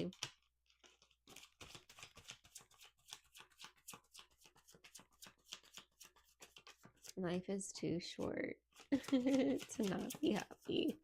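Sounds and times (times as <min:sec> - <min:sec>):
cards being shuffled: 0:00.0 - 0:07.2, 0:08.7 - 0:11.0.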